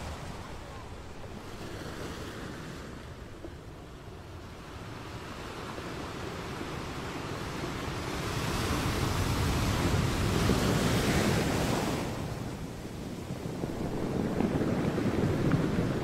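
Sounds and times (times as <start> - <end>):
ocean wave washing: 0.0 - 16.0.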